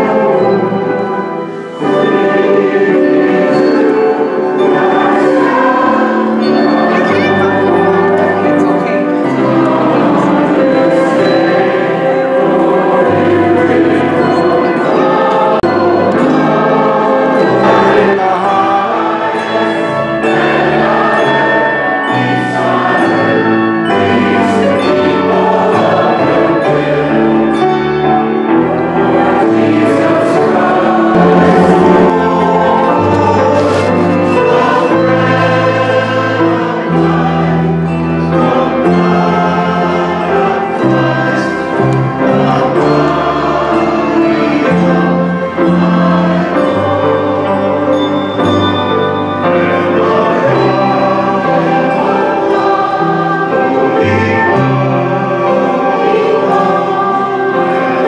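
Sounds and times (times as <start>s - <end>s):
choir singing a hymn: 0.0s - 58.0s
piano accompaniment: 0.0s - 58.0s.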